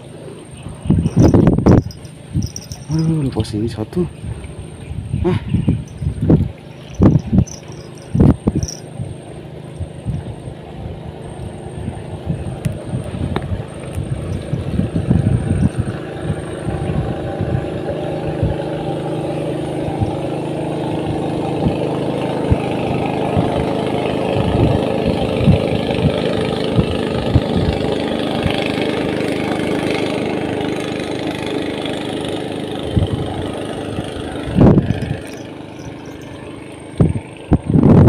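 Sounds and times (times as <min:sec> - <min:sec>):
engine droning: 0:00.0 - 0:38.0.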